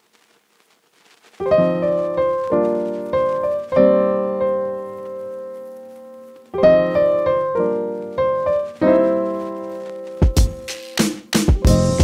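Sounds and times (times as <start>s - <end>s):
piano chords: 1.4s - 12.0s.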